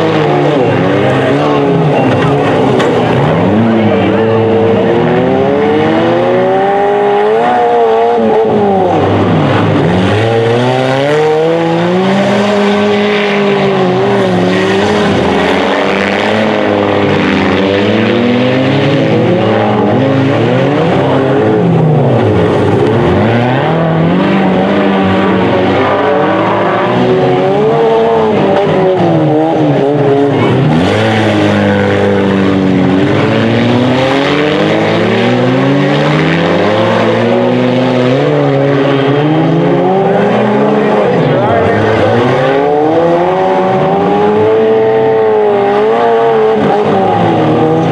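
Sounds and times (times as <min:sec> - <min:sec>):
racing car engines revving: 0:00.0 - 0:47.9.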